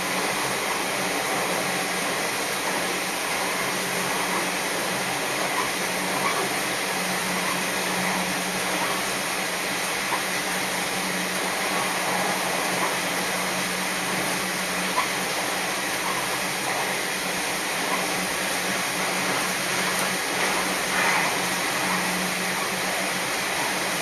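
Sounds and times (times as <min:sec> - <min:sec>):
low engine drone: 0:00.0 - 0:24.0
wheels on rails: 0:00.0 - 0:24.0.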